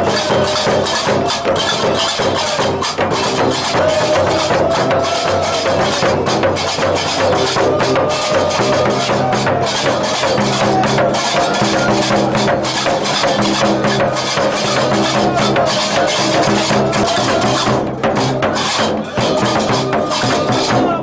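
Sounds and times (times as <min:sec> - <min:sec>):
drums beaten with sticks: 0:00.0 - 0:21.0.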